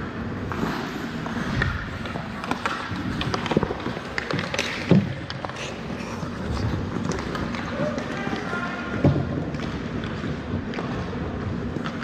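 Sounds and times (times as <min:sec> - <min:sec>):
skate blades scraping ice: 0:00.2 - 0:12.0
hockey sticks clacking: 0:00.4 - 0:12.0.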